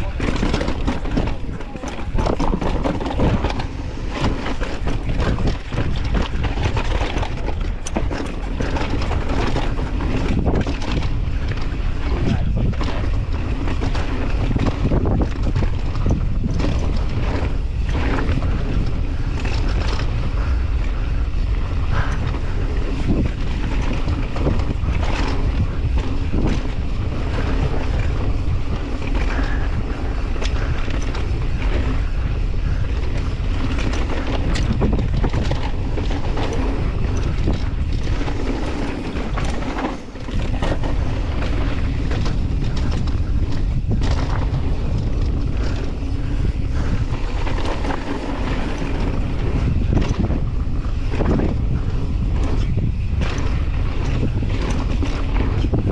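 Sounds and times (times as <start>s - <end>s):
bike clicking and clattering: 0.0s - 55.9s
tyres rumbling over dirt: 0.0s - 55.9s
wind buffeting microphone: 0.0s - 55.9s.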